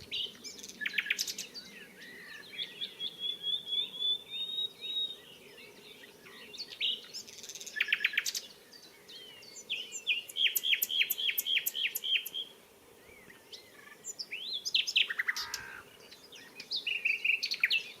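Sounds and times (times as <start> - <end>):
nightingale singing: 0.0 - 18.0.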